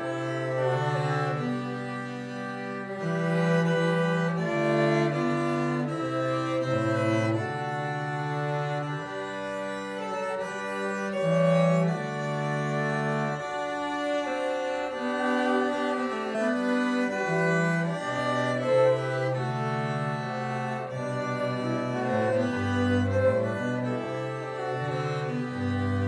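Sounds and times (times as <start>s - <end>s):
cello quartet playing a hymn: 0.0s - 26.0s.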